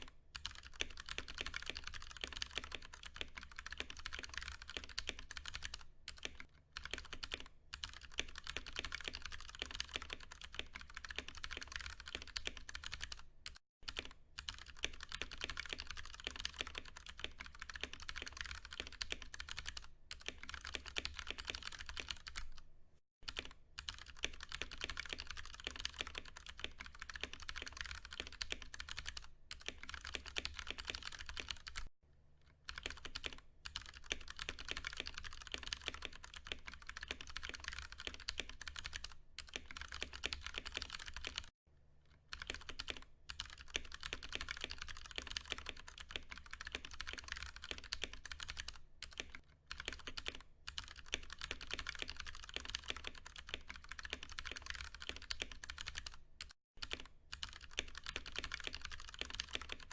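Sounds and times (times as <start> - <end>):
mechanical keyboard typing: 0.0 - 22.6, 23.2 - 31.9, 32.7 - 41.5, 42.3 - 59.9.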